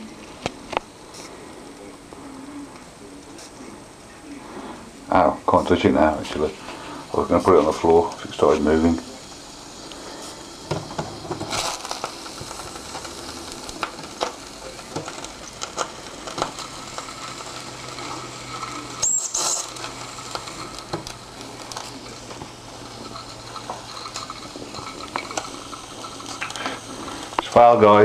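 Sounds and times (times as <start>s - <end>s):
small spits and crackles: 0.0s - 4.9s, 6.2s - 28.0s
escaping steam hiss: 0.0s - 28.0s
steam engine sizzling hiss: 0.0s - 28.0s.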